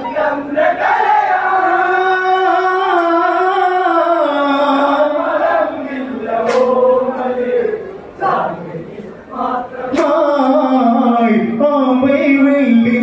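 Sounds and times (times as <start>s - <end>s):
voices singing held line: 0.0s - 13.0s.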